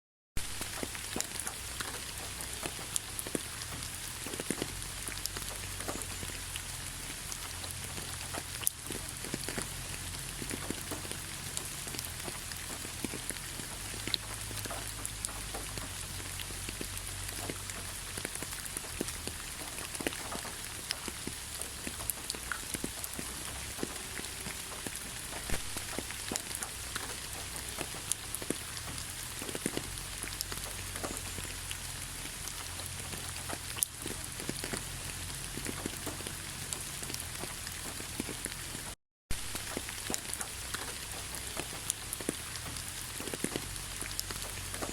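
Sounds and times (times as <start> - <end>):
raindrops ticking: 0.4 - 44.9
steady rain: 0.4 - 44.9.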